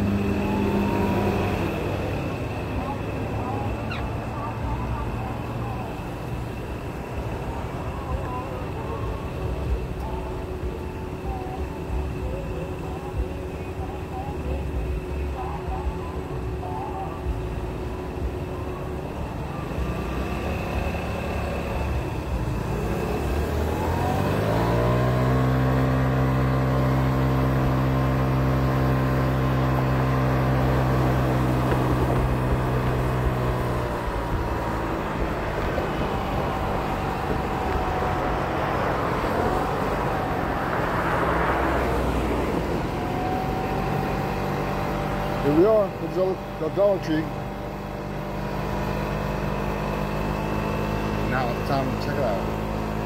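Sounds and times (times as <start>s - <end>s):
scooter engine pulling away: 0.0s - 17.2s, 17.8s - 53.0s
traffic noise: 0.0s - 53.0s.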